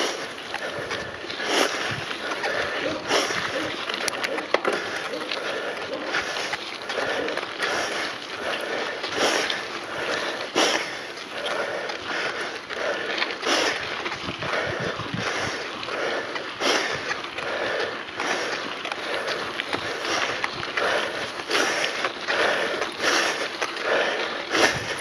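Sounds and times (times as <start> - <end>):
bike rattling: 0.0 - 25.0
tyres on dirt: 0.0 - 25.0.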